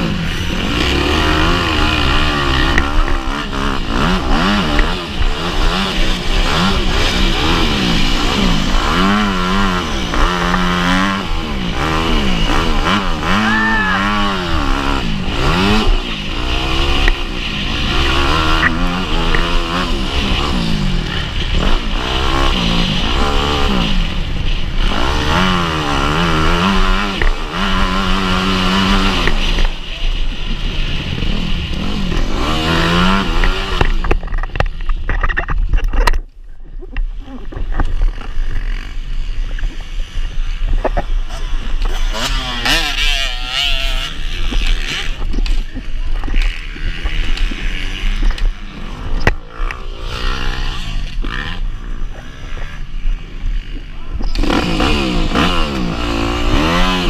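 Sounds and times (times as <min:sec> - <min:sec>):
dirt bike engine revving: 0:00.0 - 0:36.1, 0:37.0 - 0:57.0.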